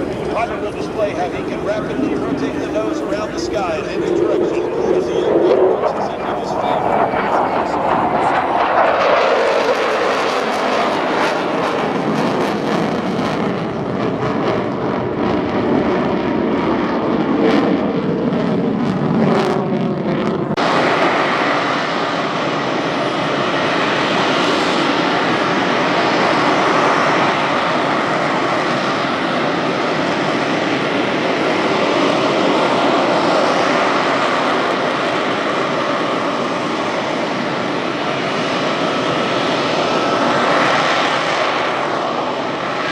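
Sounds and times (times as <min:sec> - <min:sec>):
jet aircraft engine roar: 0:00.0 - 0:42.9.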